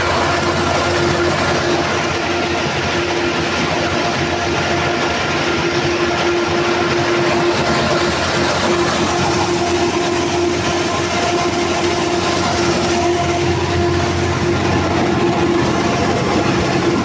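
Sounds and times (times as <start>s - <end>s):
diesel engine clattering: 0.0s - 17.0s
steady engine whine: 0.0s - 17.0s.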